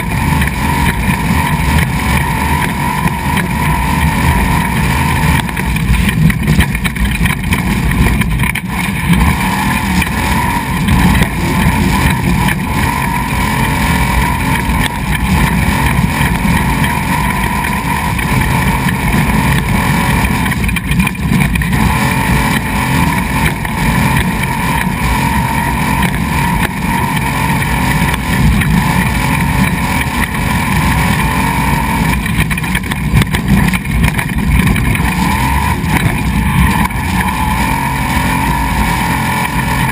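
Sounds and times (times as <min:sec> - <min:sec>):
race vehicle engine droning: 0:00.0 - 0:39.9
rumble of vehicle on gravel: 0:00.0 - 0:39.9.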